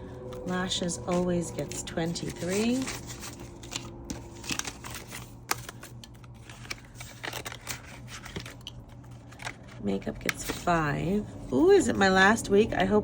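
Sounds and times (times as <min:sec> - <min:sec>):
banknotes crinkling and rustling: 0:00.2 - 0:13.0.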